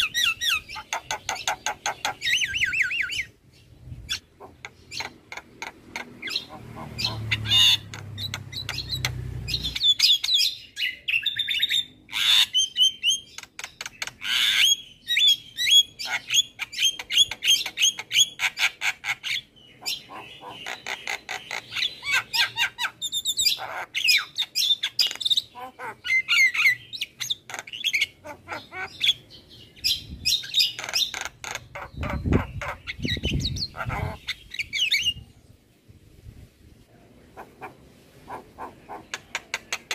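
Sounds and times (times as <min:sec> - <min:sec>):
myna bird singing: 0:00.0 - 0:35.7, 0:36.9 - 0:39.9.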